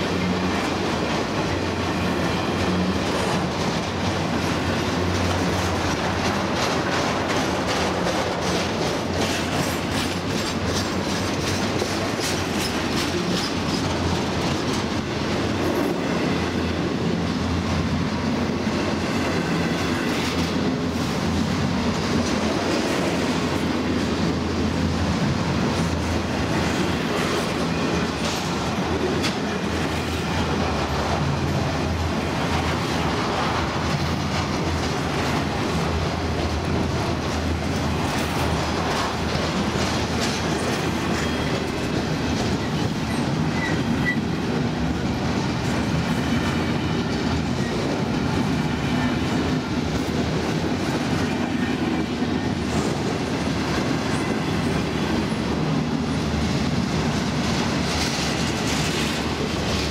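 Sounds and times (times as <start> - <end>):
clicks and knocks of rail cars: 0.0 - 59.9
train wheels rumbling on rails: 0.0 - 59.9.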